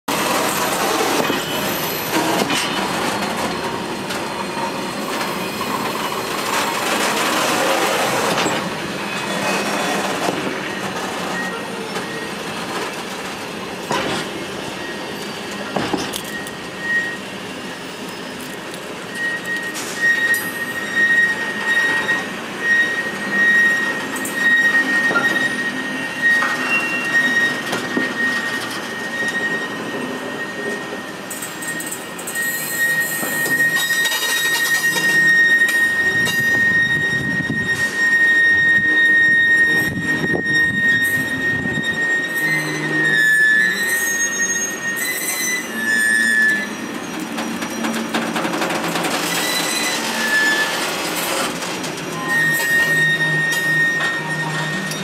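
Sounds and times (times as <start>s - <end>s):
high metallic squeal: 0.1s - 55.0s
train wheels rumbling and clanking: 0.1s - 55.0s.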